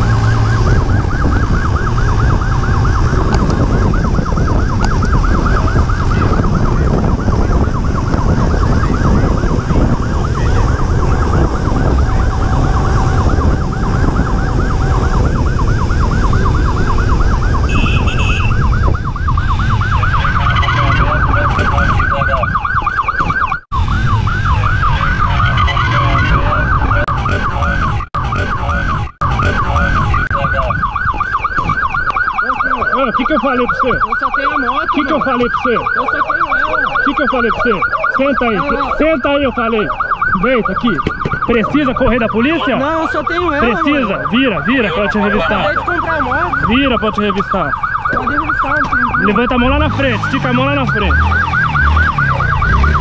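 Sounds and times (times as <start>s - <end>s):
heavy wind rumble: 0.0s - 32.4s, 33.2s - 53.0s
police siren yelping: 0.0s - 53.0s.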